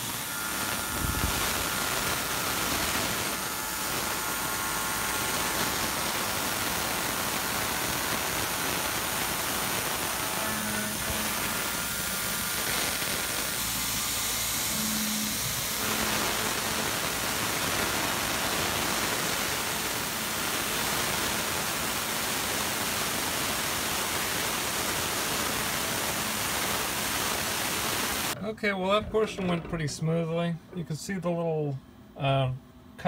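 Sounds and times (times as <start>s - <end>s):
milling machine cutting metal: 0.0s - 30.9s.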